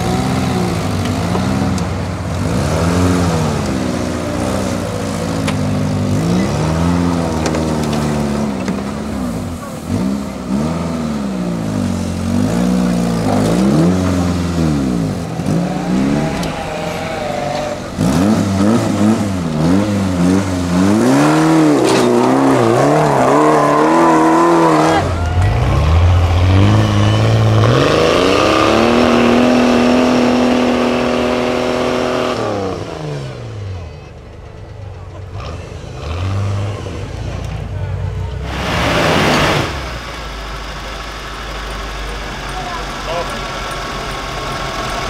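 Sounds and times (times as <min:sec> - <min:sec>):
off-road vehicle engines revving: 0:00.0 - 0:45.0.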